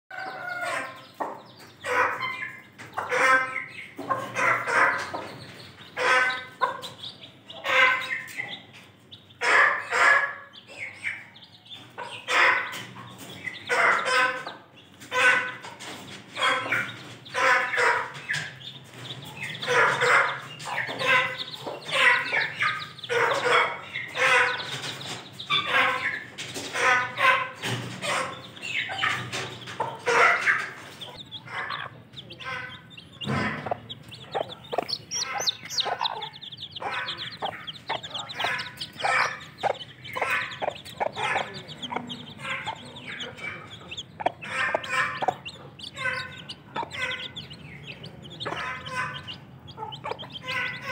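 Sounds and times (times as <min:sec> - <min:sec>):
hens clucking: 0:00.1 - 0:50.9.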